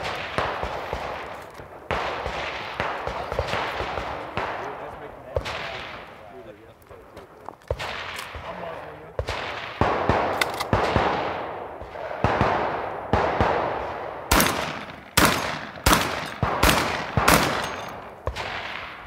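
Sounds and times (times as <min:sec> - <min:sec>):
rifle shots with echo: 0:00.0 - 0:06.5, 0:07.7 - 0:19.0.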